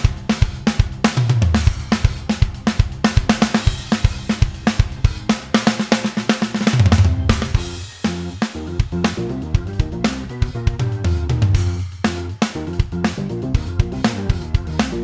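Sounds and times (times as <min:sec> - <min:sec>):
drum kit playing a groove: 0:00.0 - 0:15.0.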